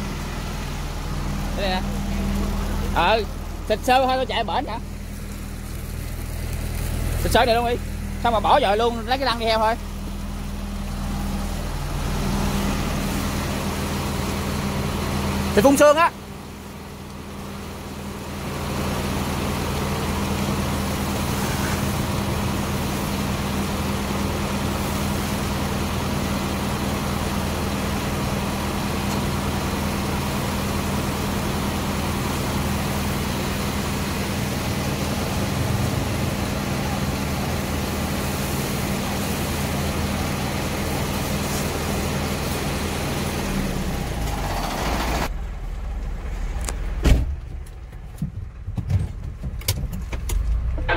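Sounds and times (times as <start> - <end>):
water spraying from hose: 0.0 - 45.3
fire engine running: 0.0 - 50.9.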